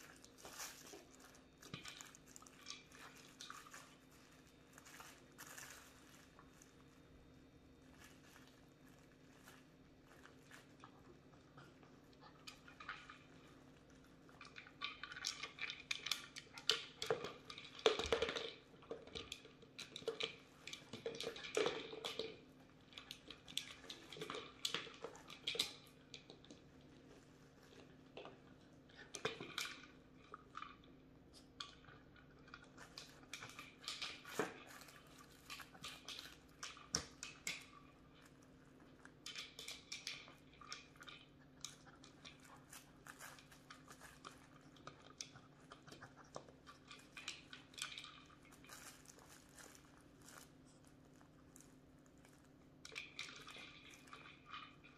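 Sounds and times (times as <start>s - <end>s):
puppy chewing a toy: 0.0s - 54.9s
treats rattling in a ball: 0.0s - 54.9s.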